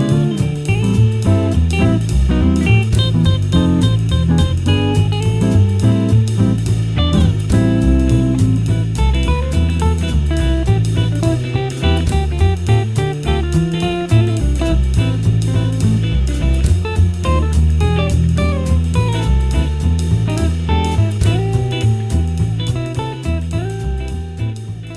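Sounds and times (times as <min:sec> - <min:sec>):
guitar and drums music: 0:00.0 - 0:24.9.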